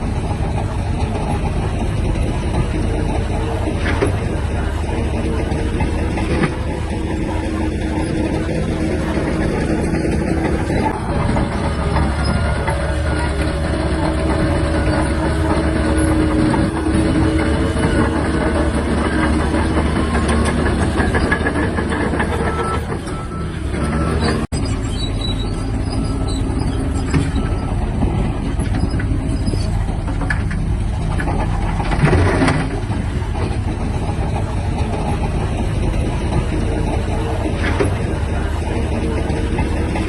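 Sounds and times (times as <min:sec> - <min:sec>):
bulldozer diesel engine running: 0:00.0 - 0:40.0
steel tracks clattering: 0:00.0 - 0:40.0.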